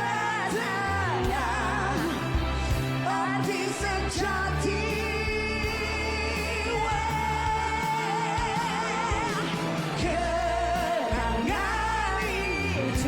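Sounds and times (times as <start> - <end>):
band backing with bass: 0.0 - 13.0
person singing pop ballad: 0.0 - 13.0.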